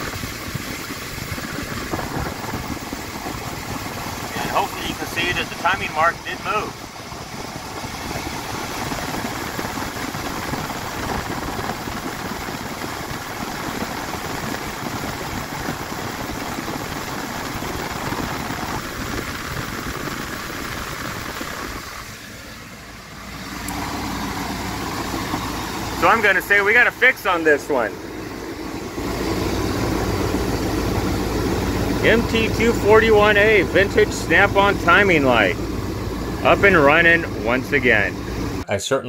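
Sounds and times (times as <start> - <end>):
car engine idling: 0.0 - 38.6.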